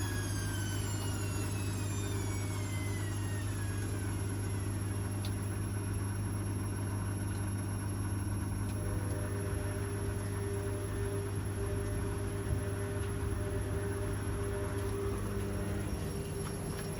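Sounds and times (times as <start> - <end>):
low hum: 0.0 - 16.9
washing machine motor whine: 0.0 - 16.9.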